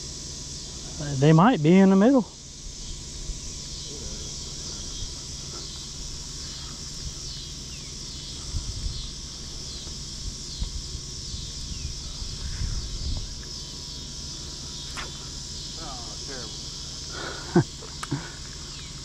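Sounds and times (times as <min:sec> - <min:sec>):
high insect chorus: 0:00.0 - 0:19.0.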